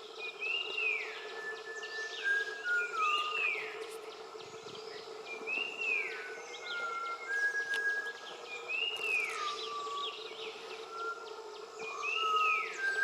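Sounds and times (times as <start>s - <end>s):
long low bird whistles: 0.0s - 3.8s, 5.3s - 13.0s
steady low hum: 0.0s - 13.0s.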